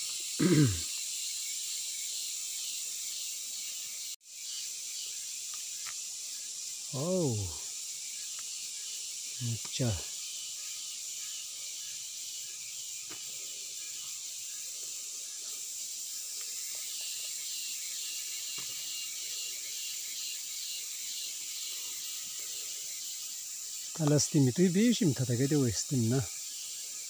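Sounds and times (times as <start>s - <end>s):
high-pitched forest ambience: 0.0s - 27.0s.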